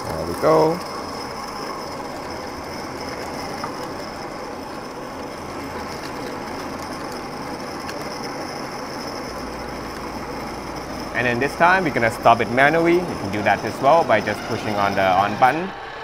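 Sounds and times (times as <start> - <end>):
electric coffee grinder grinding: 0.0 - 16.0.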